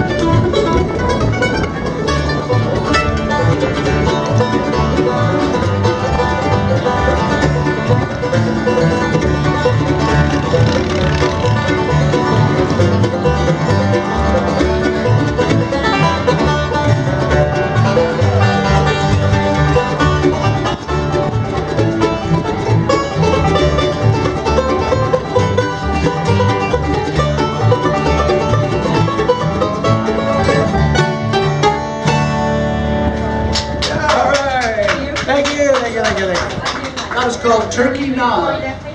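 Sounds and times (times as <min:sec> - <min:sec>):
acoustic guitar: 0:00.0 - 0:35.9
mandolin: 0:00.0 - 0:38.9.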